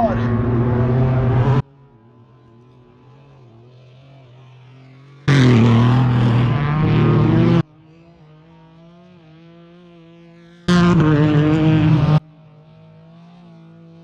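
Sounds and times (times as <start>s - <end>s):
race vehicle engine: 0.0s - 14.0s.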